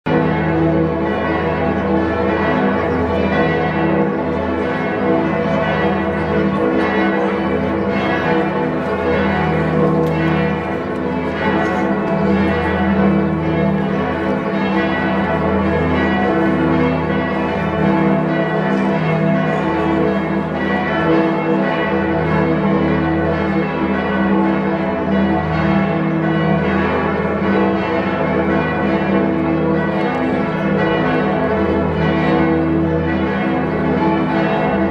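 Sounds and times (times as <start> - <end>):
church bells pealing: 0.1 - 34.9
deep bells: 0.1 - 34.9.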